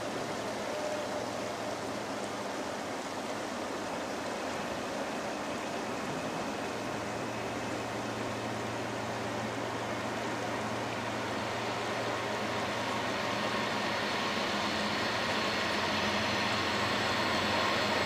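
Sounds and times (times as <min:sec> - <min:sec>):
diesel train approaching: 0:00.0 - 0:18.0
river water rushing: 0:00.0 - 0:18.0.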